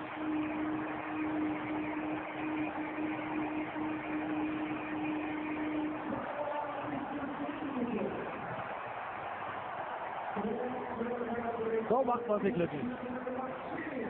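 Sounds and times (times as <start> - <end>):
stadium crowd cheering: 0.0 - 14.0.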